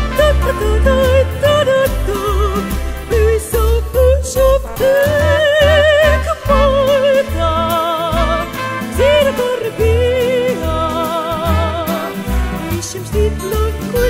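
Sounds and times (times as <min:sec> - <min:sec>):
singing with wide vibrato: 0:00.0 - 0:14.0.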